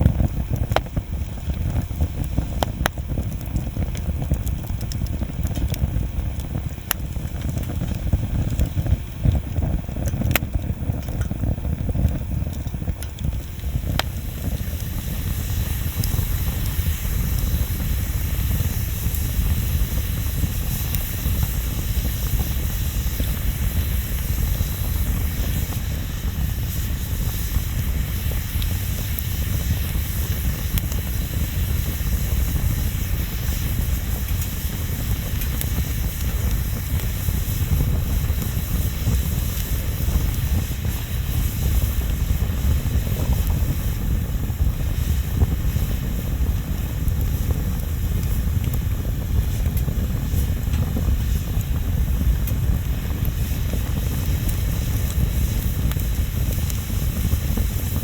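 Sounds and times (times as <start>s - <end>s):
bonfire rumbling and hissing: 0.0s - 58.0s
faint fire crackles: 0.0s - 58.0s.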